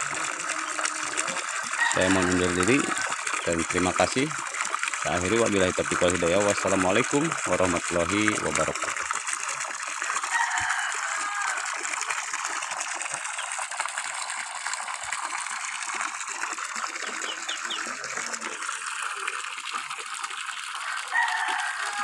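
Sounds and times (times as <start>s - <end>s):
water gushing into a pool: 0.0s - 22.0s.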